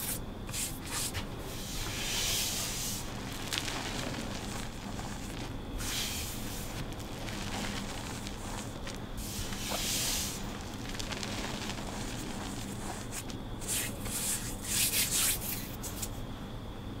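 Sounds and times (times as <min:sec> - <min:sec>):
hands crumbling chalk: 0:00.5 - 0:16.1.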